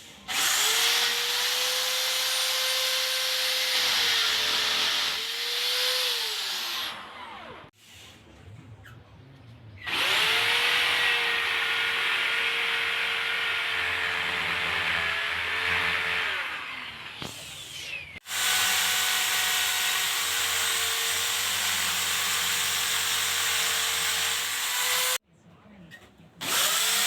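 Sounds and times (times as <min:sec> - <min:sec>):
electric drill running: 0:00.3 - 0:07.0, 0:09.9 - 0:25.2, 0:26.4 - 0:27.0.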